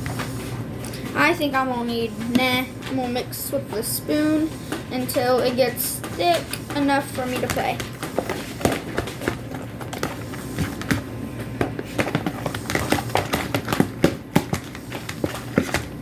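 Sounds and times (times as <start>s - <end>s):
spoon stirring slime: 0.0s - 16.0s.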